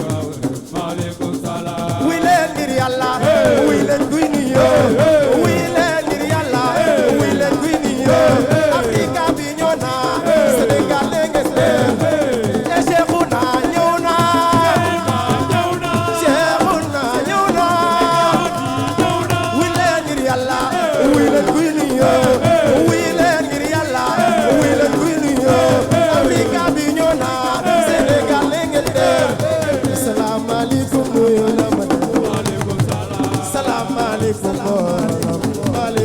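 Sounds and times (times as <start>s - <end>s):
hand drum percussion: 0.0s - 36.0s.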